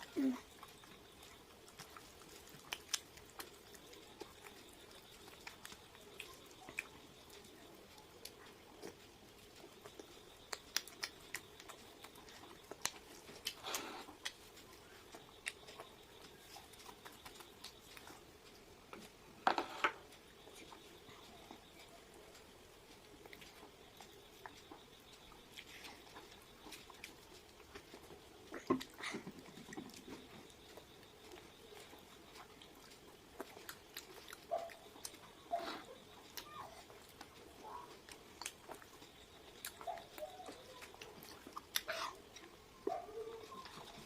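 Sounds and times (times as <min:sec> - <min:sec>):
chewing food: 0:00.0 - 0:44.0.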